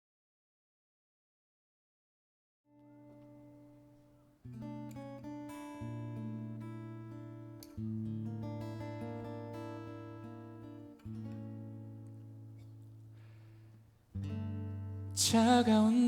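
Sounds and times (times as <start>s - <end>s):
acoustic guitar ballad: 2.8s - 16.0s.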